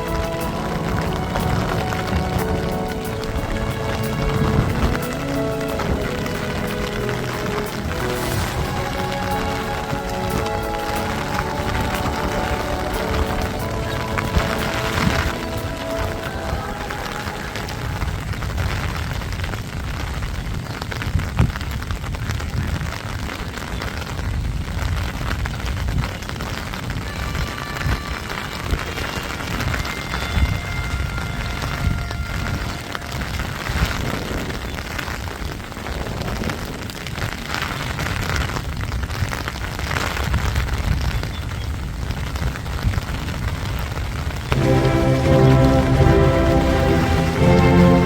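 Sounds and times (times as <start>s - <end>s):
heavy rain on hard surfaces: 0.0s - 48.0s.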